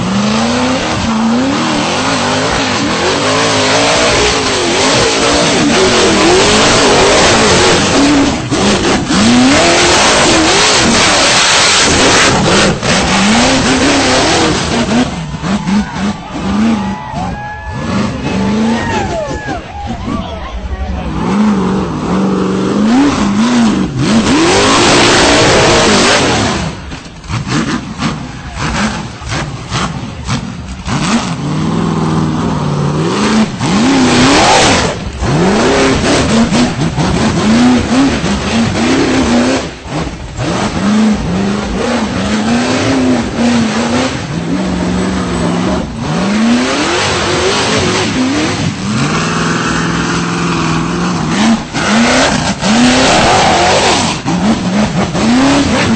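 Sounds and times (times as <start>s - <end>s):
engine revving hard: 0.0s - 55.9s.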